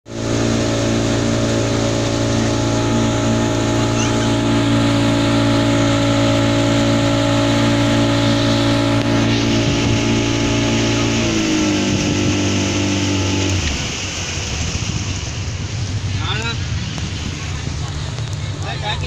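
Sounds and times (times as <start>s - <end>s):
boat motor droning: 0.0s - 19.0s
rushing water and air: 0.0s - 19.0s.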